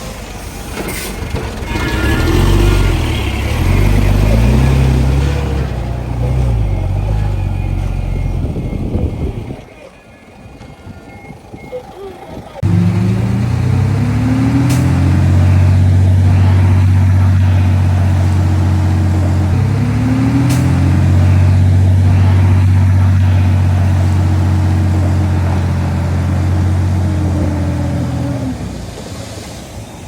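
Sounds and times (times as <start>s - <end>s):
diesel engine revving: 1.0s - 9.6s, 12.6s - 29.1s.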